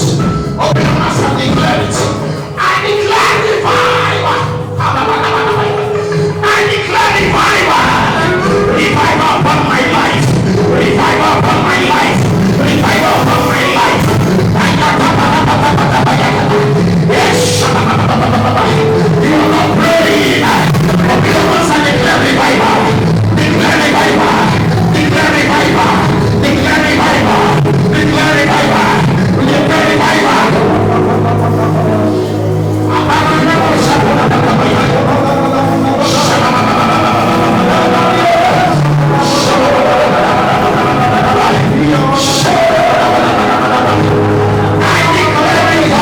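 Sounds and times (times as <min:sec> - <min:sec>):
drum kit: 0:00.0 - 0:46.0
people singing: 0:00.0 - 0:46.0
worship band playing music: 0:00.0 - 0:46.0.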